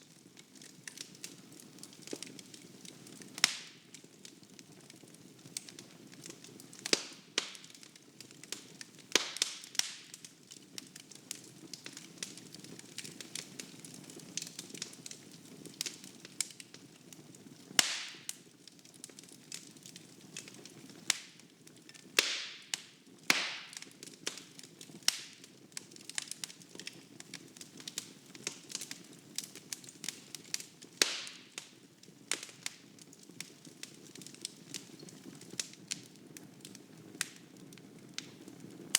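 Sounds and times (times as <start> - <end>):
sharp pops of burning wood: 0.2 - 38.9.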